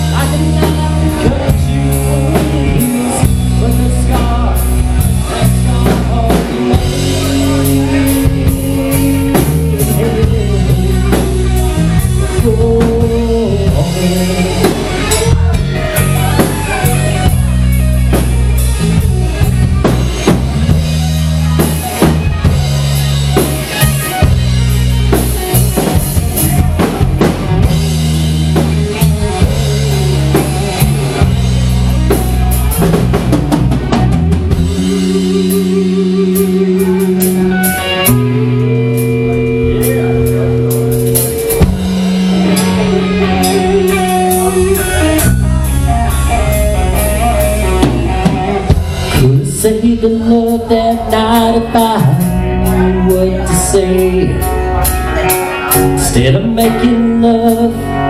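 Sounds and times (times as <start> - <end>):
drum kit and bass beat: 0.0 - 58.0
electric guitar lead lines: 0.0 - 58.0.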